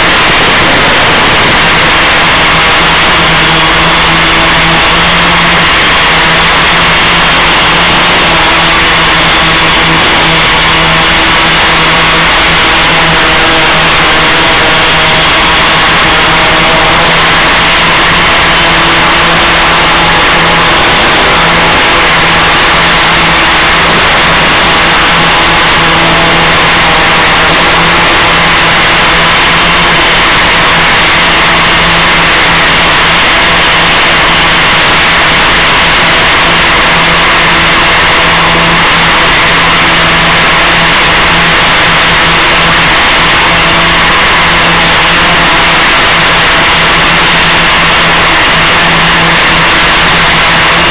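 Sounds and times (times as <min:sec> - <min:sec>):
loud constant hiss: 0:00.0 - 0:50.9
quadcopter motors buzzing: 0:00.0 - 0:50.9.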